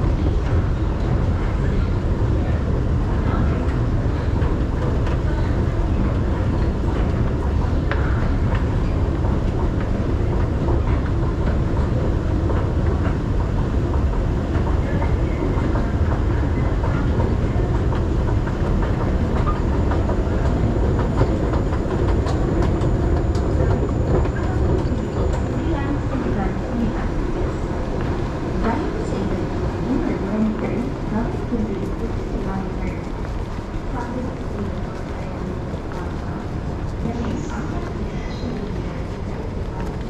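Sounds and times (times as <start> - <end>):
escalator machinery rumbling: 0.0 - 40.0.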